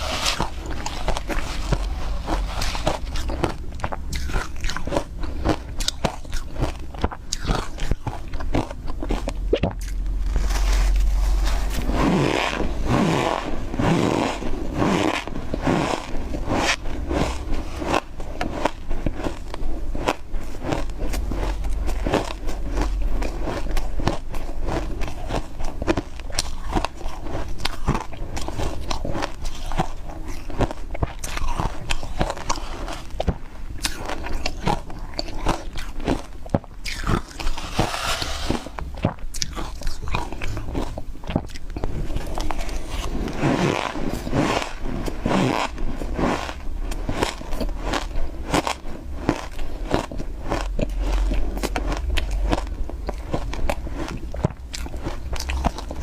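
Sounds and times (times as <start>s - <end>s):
chewing crunching ice: 0.0s - 38.0s, 38.7s - 56.0s.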